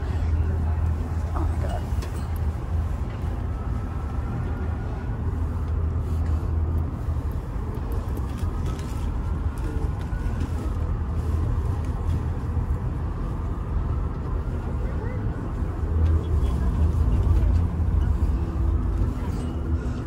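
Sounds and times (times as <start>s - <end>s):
tram cabin low rumble: 0.0s - 20.0s.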